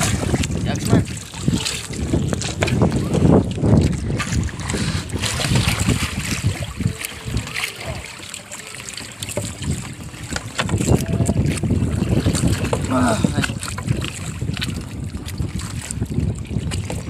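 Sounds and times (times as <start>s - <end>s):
wind buffeting microphone: 0.0s - 8.0s, 9.2s - 17.0s.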